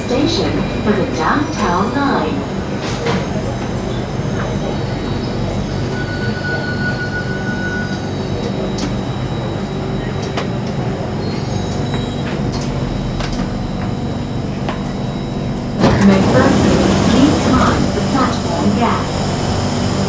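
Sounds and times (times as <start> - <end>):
train humming: 0.0 - 20.0.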